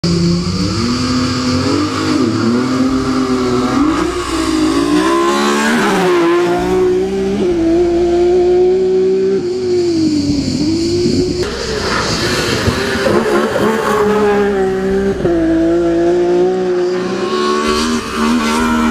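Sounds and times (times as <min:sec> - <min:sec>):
race car engine accelerating: 0:00.0 - 0:18.9.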